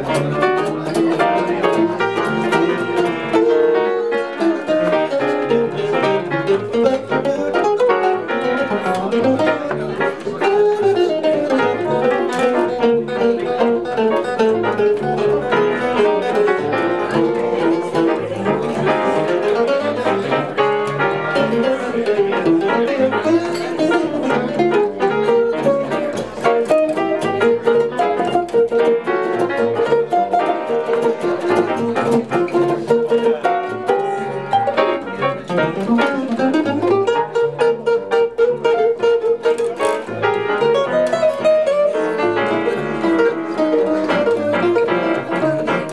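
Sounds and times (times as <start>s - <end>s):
jazz guitar solo: 0.0s - 45.9s
upright double bass: 0.0s - 45.9s.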